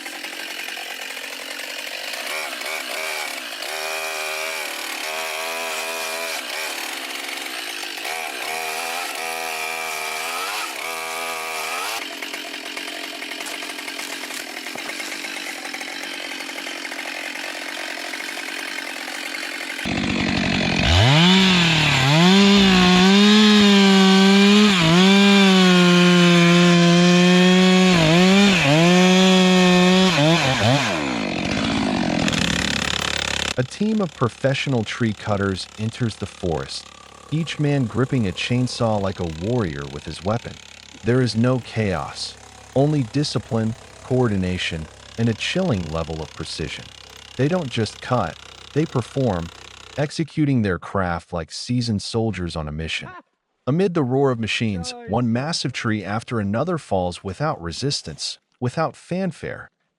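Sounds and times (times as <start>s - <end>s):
chainsaw cutting wood: 0.0s - 50.2s.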